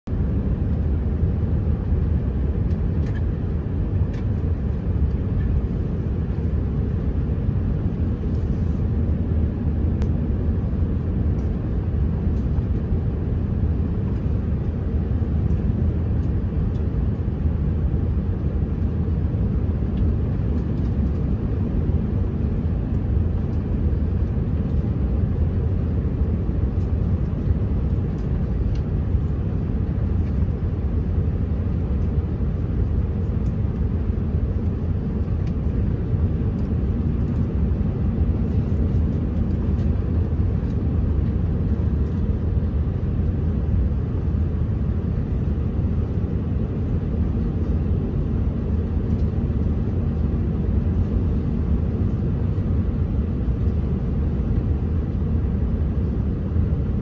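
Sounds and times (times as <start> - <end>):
airplane engine rumble: 0.0 - 57.0.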